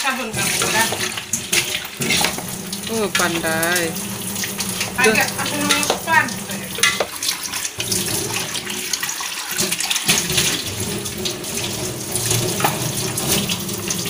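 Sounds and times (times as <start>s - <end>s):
tap running into metal sink: 0.4s - 14.0s.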